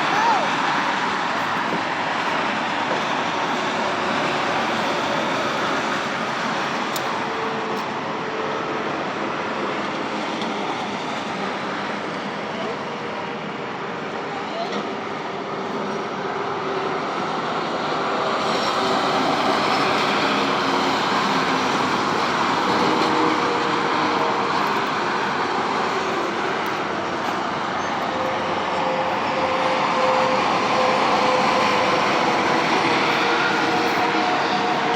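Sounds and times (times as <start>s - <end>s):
steady vehicle noise: 0.0s - 34.9s.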